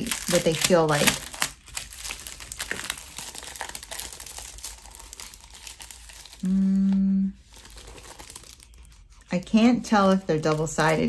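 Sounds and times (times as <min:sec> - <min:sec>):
paper sheets crinkling: 0:00.0 - 0:06.4, 0:07.4 - 0:11.0.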